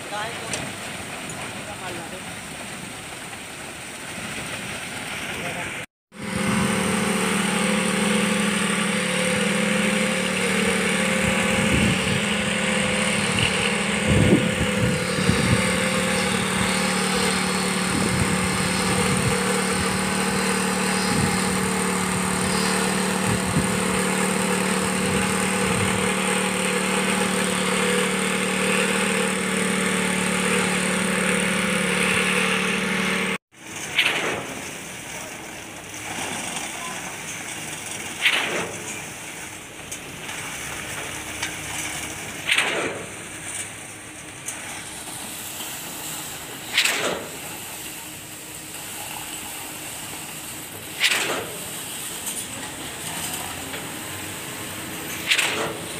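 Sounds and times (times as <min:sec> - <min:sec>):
concrete pouring machine running: 0:00.0 - 0:55.9
construction site noise: 0:00.0 - 0:55.9.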